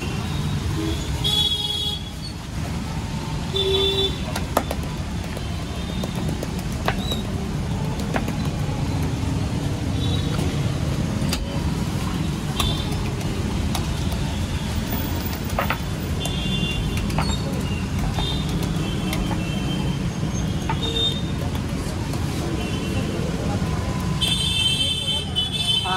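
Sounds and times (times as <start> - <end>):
road traffic rumble: 0.0 - 25.9.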